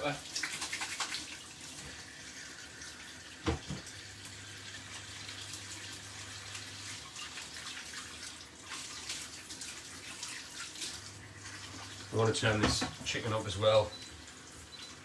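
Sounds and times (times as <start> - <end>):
kitchen tap running: 0.0 - 15.0.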